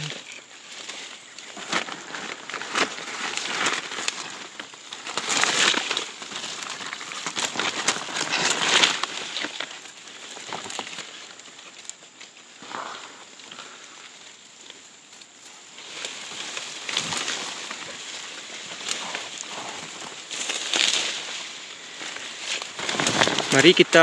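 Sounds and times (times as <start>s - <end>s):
dry leaves rustling and crackling: 0.0s - 24.0s.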